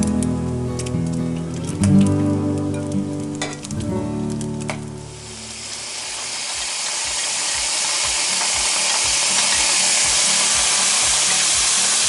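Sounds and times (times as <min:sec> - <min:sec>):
potatoes sizzling in grease: 0:00.0 - 0:12.0.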